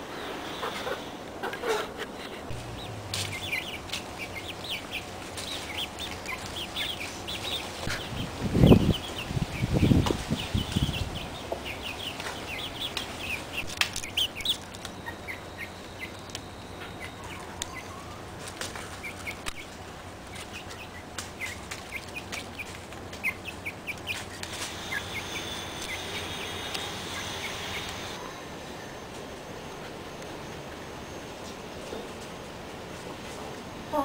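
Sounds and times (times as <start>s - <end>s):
birds chirping: 0.0s - 32.2s.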